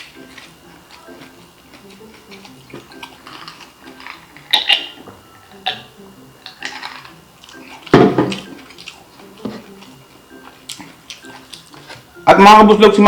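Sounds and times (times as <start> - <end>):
eating noises: 0.0 - 12.2
background music: 0.0 - 13.0.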